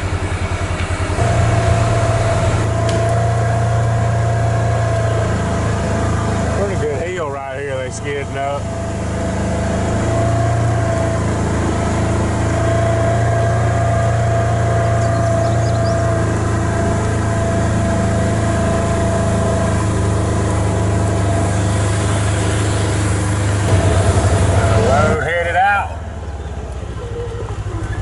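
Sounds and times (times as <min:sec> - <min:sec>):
diesel engine running under load: 0:00.0 - 0:28.0
steady whine: 0:00.0 - 0:28.0.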